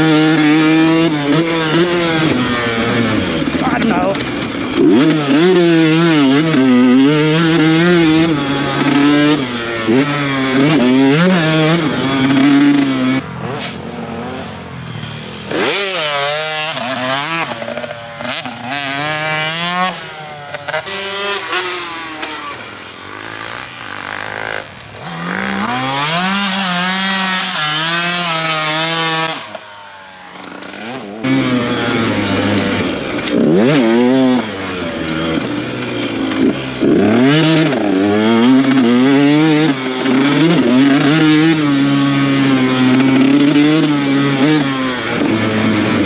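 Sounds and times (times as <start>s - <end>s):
two-stroke dirt bike engine revving: 0.0s - 46.0s.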